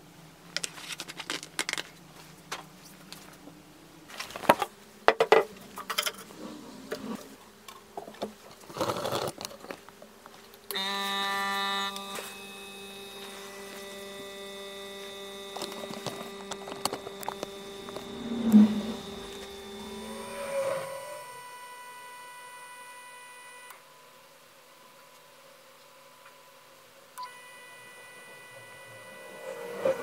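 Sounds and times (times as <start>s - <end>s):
compressor electric hum: 0.0s - 30.0s.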